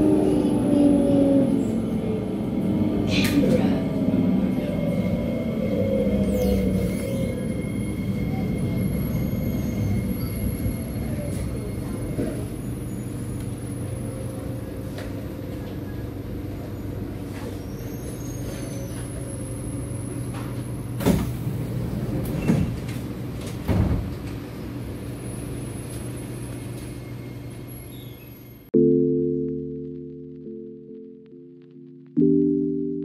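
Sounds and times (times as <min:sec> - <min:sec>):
train cabin low hum: 0:00.0 - 0:28.7.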